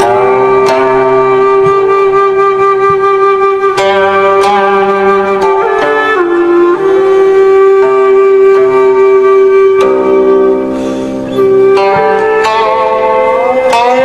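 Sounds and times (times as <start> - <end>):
flute sustained notes: 0.0 - 14.0
plucked strings: 0.0 - 14.0.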